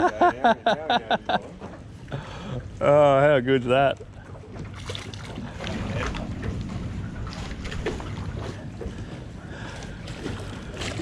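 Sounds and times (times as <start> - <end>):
low wind: 0.0 - 11.0
water around a boat: 0.0 - 11.0.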